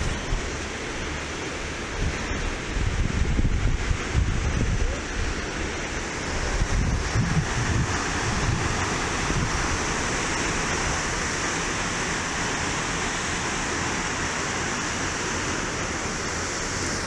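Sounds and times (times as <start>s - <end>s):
surf washing over rocks: 0.0s - 17.0s
wind rumble on microphone: 0.0s - 17.0s.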